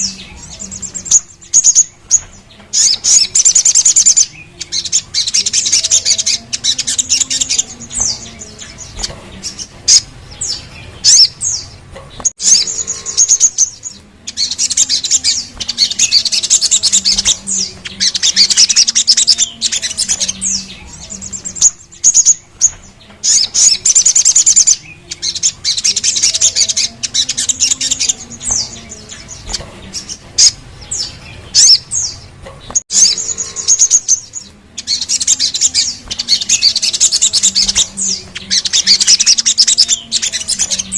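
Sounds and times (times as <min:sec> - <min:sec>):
bird singing rattling trills: 0:00.0 - 0:40.9.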